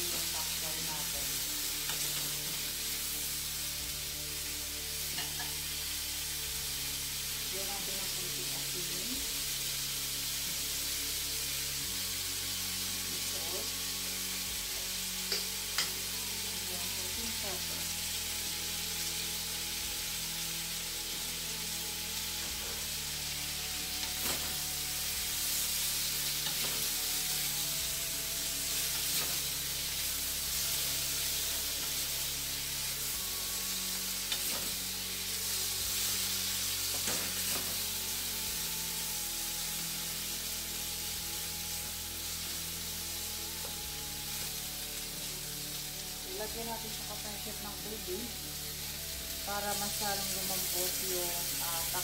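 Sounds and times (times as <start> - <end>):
stems sizzling in hot oil: 0.0 - 52.0.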